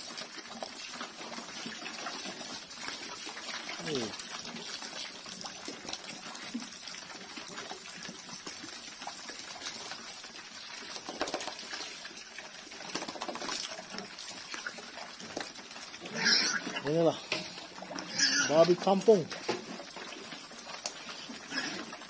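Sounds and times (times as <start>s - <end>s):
hose water splashing into trough: 0.0s - 22.0s
pigs slurping and chewing: 0.0s - 22.0s.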